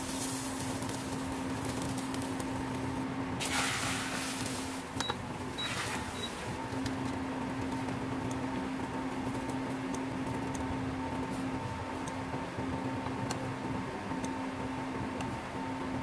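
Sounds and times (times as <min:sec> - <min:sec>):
electric hum: 0:00.0 - 0:16.0.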